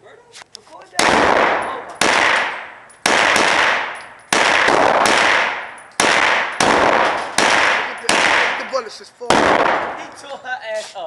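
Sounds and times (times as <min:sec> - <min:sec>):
handgun shots echoing: 0:01.0 - 0:10.1.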